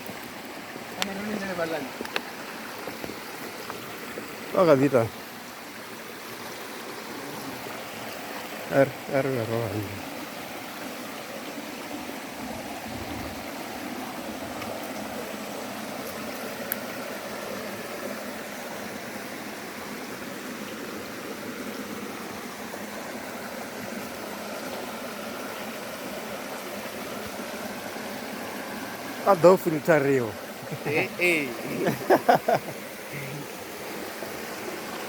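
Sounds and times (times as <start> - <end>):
stream water flowing: 0.0 - 35.0.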